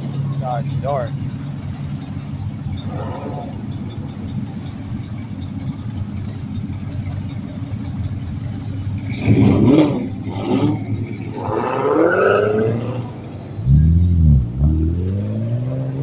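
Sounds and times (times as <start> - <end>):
car engine idling: 0.0 - 16.0
engine revving: 0.0 - 16.0.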